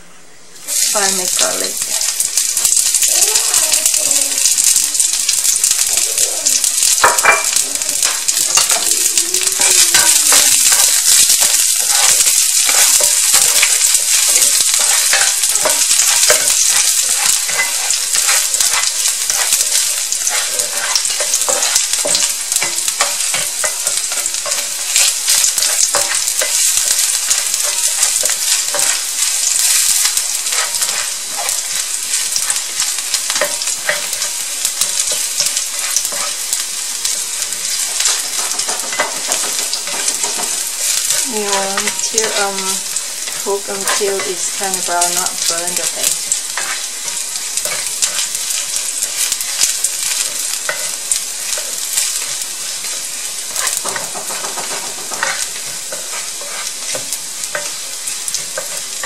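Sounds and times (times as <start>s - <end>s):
garlic sizzling in oil: 0.0s - 59.0s.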